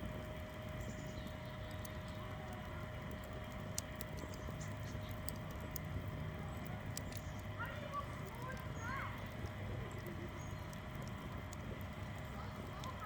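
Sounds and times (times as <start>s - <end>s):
low steady rumble: 0.0s - 13.0s
wood fire crackling and popping: 0.0s - 13.0s.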